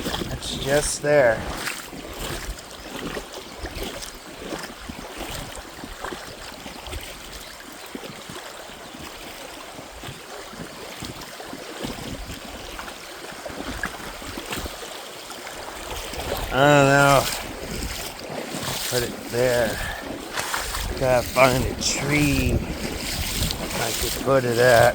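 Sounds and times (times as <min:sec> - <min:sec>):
creek water splashing and trickling: 0:00.0 - 0:24.9.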